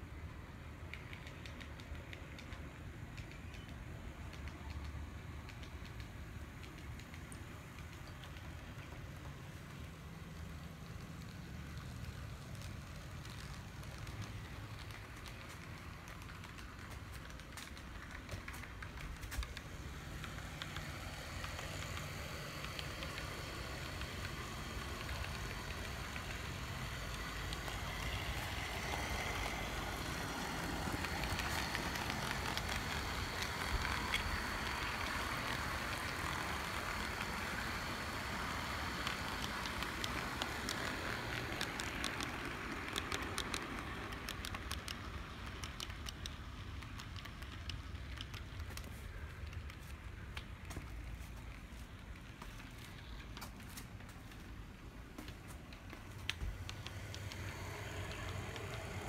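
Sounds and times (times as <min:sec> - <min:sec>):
model locomotive motor whir: 0:00.0 - 0:59.0
wheels clicking over rail joints: 0:00.0 - 0:59.0.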